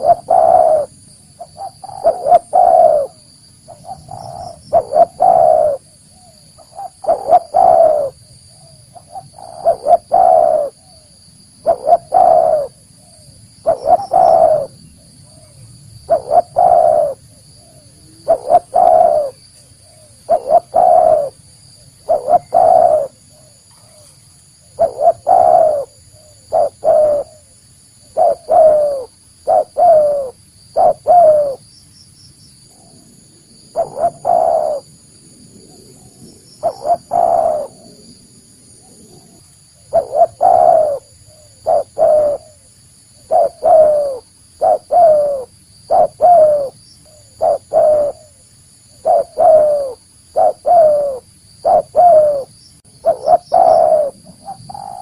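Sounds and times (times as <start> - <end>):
dove cooing: 0.0 - 31.6, 32.7 - 35.0, 35.6 - 38.2, 38.8 - 55.0.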